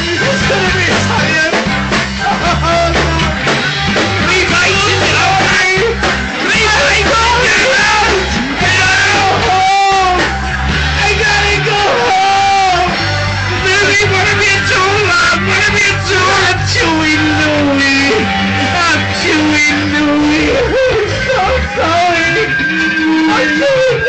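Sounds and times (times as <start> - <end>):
bass guitar: 0.0 - 24.0
electric guitar: 0.0 - 24.0
person shouting singing: 0.0 - 24.0
rock band playing: 0.0 - 24.0.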